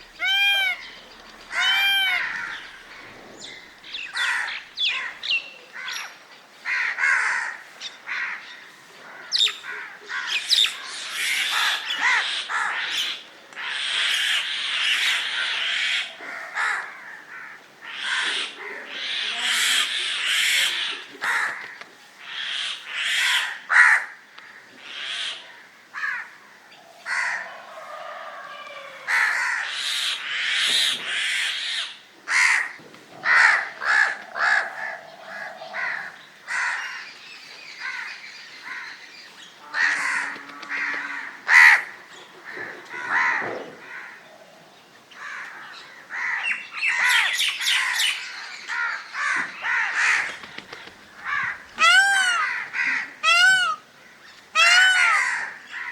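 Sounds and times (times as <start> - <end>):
crows cawing: 0.1 - 26.4, 27.1 - 37.2, 37.8 - 44.2, 45.2 - 55.9.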